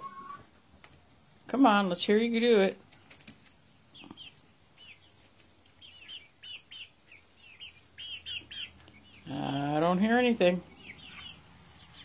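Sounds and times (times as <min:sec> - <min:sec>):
chicks peeping: 0:02.1 - 0:12.0.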